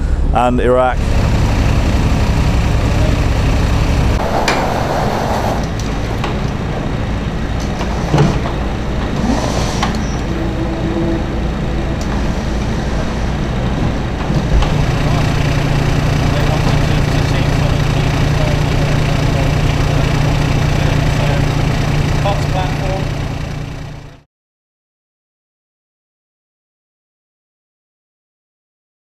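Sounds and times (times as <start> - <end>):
vehicle engine running: 0.0 - 24.2.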